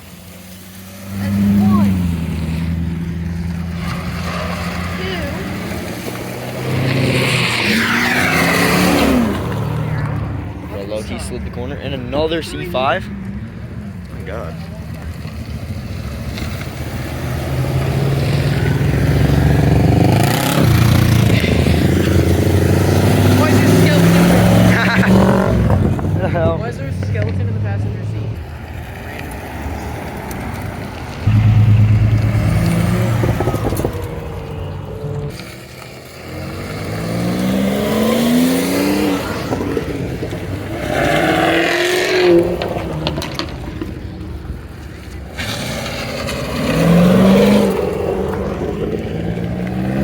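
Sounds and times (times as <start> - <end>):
car accelerating past: 0.0 - 50.0.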